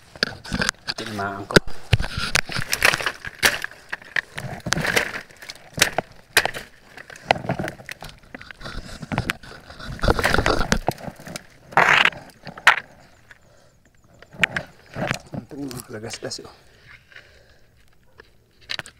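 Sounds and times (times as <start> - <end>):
twigs snapping and rustling: 0.0 - 18.9.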